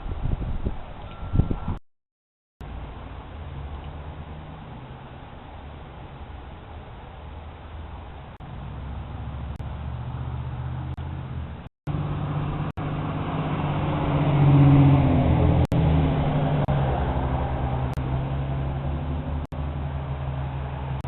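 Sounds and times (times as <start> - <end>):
vehicle engine humming: 2.6 - 21.0.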